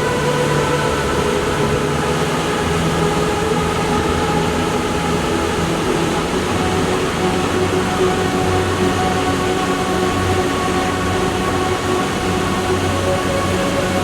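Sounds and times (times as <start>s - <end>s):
faint sustained tones: 0.0s - 14.0s
waterfall roar: 0.0s - 14.0s.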